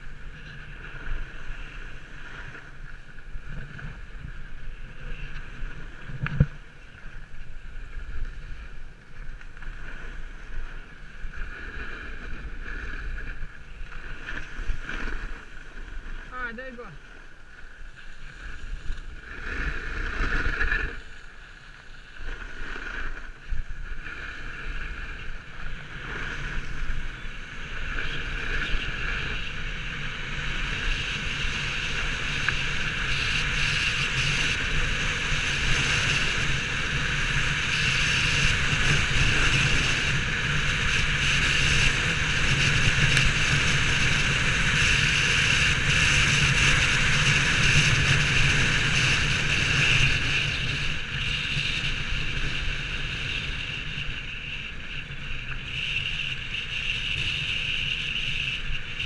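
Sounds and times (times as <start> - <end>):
snowboard sliding on snow: 0.0 - 59.0
wind rushing over microphone: 0.0 - 59.0.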